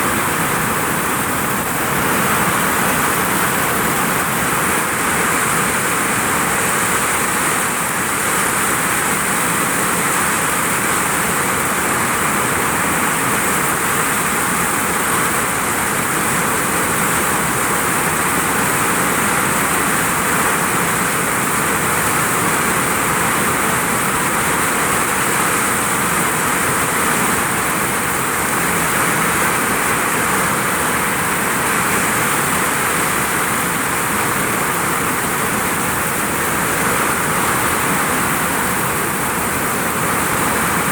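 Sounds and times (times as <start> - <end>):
heavy rain on a vinyl roof: 0.0 - 40.9.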